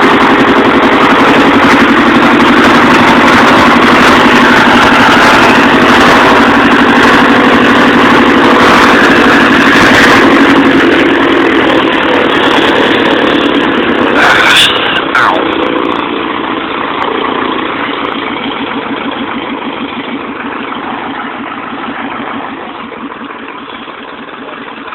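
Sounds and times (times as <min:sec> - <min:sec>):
light aircraft engine running: 0:00.0 - 0:24.9.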